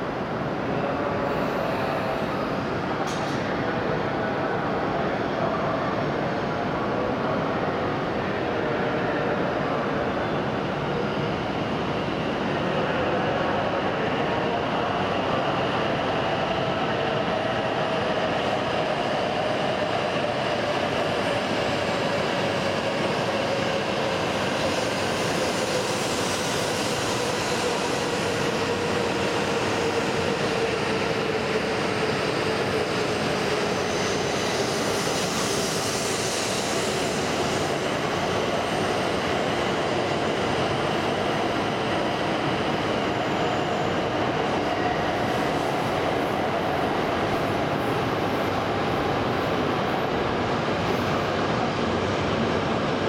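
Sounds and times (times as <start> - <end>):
train wheels rushing: 10.4 - 53.0.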